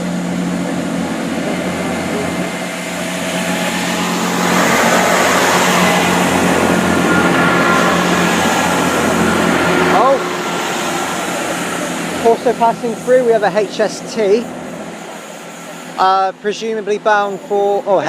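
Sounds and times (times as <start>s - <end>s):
diesel train engine running: 0.0s - 18.0s.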